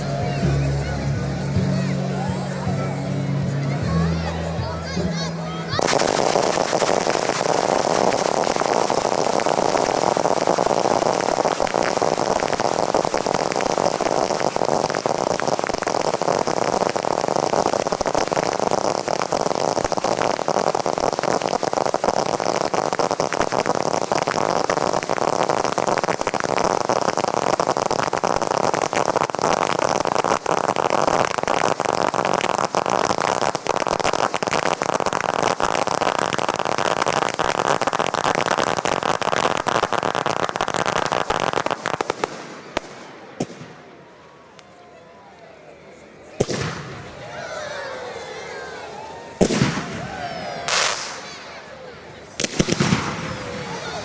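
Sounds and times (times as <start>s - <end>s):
fireworks crackling: 0.0s - 54.0s.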